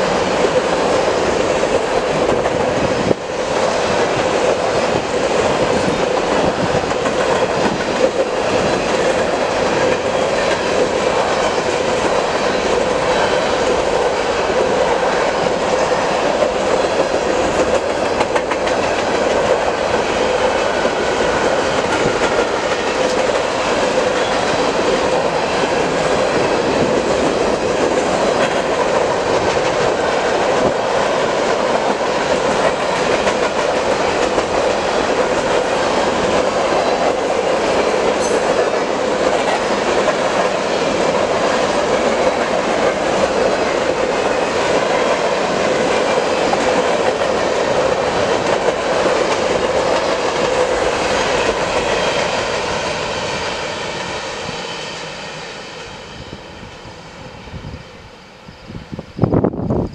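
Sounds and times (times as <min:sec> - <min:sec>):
train wheels rolling on rail: 0:00.0 - 0:59.9.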